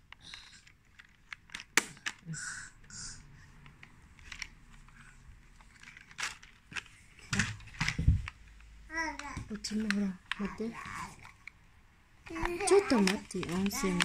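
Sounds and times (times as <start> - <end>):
hands handling toy car: 0.0 - 2.2, 3.5 - 11.6, 12.2 - 14.0
plastic clicks: 0.0 - 3.0, 3.6 - 11.6, 12.2 - 14.0.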